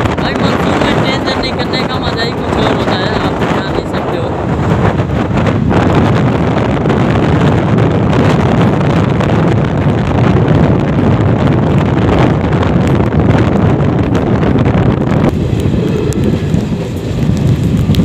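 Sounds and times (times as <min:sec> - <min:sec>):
train rumbling at speed: 0:00.0 - 0:18.0
wind buffeting microphone: 0:00.0 - 0:18.0.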